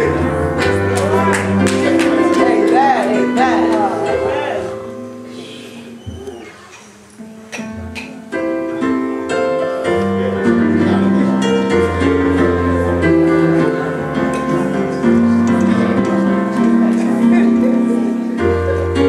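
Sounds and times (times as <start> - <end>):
keyboard playing slow chords: 0.0 - 6.4, 7.3 - 19.0.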